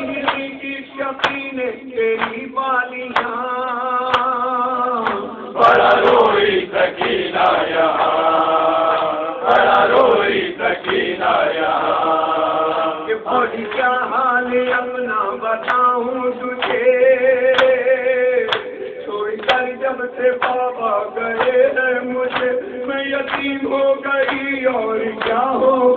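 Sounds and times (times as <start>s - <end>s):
men's chorus singing: 0.0s - 3.4s, 4.0s - 25.9s
man singing a lament: 0.0s - 25.9s.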